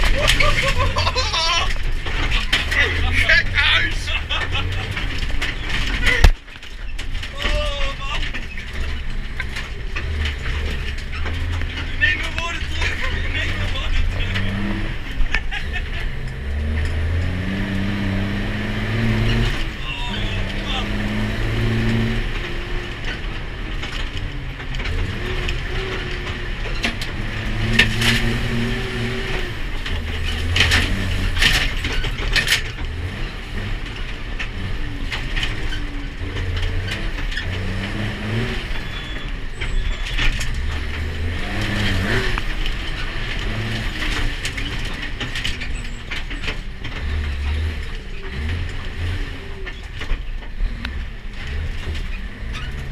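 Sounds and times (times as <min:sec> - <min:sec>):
truck body rattling: 0:00.0 - 0:52.9
truck engine running: 0:00.0 - 0:52.9.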